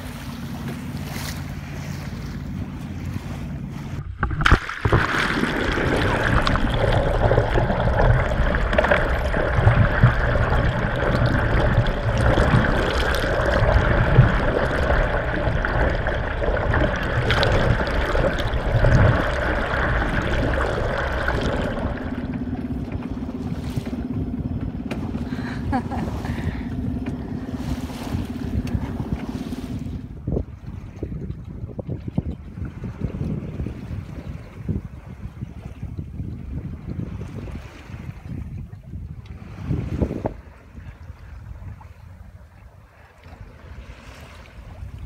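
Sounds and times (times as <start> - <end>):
boat moving through sea: 0.0 - 45.0
underwater water rushing and bubbling: 0.0 - 45.0.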